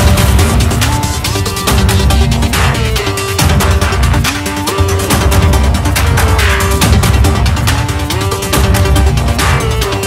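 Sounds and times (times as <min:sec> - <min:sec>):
electronic music with synths: 0:00.0 - 0:10.0.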